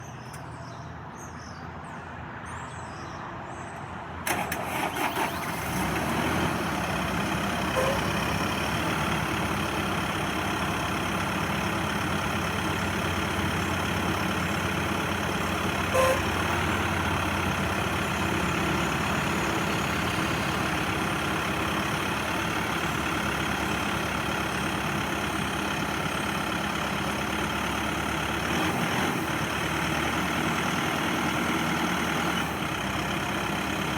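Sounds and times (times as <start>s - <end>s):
tractor diesel engine starting: 4.2s - 33.9s.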